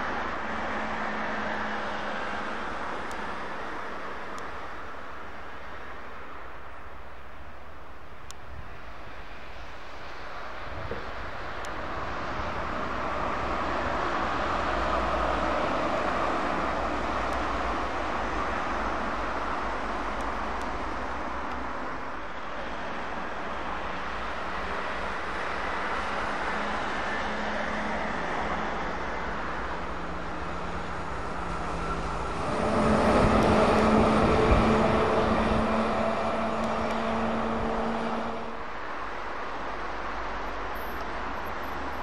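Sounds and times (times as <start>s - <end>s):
heavy truck engine hum: 0.0s - 42.0s
road traffic passing: 0.0s - 42.0s.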